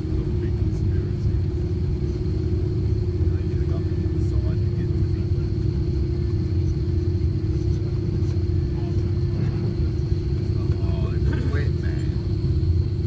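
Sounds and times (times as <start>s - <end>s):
airliner cabin rumble: 0.0s - 13.0s
droning hum: 0.0s - 13.0s.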